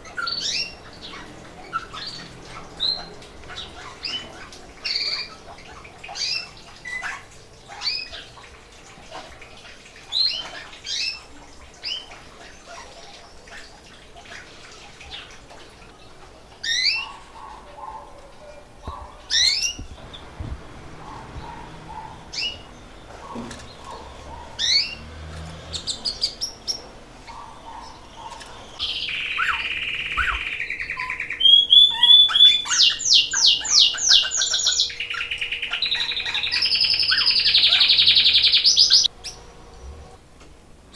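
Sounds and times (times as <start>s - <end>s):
canaries chirping: 0.0s - 40.2s
canary song with rolling trills: 0.0s - 40.9s.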